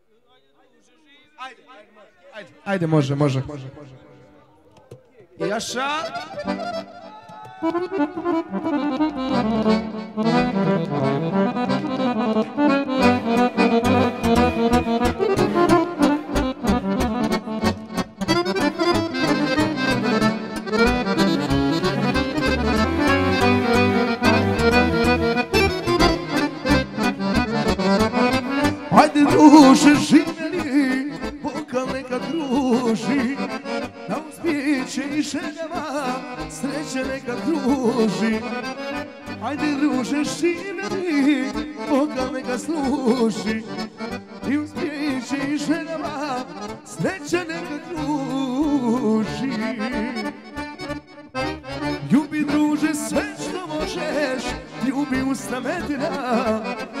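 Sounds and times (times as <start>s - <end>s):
accordion folk tune: 2.8s - 57.0s.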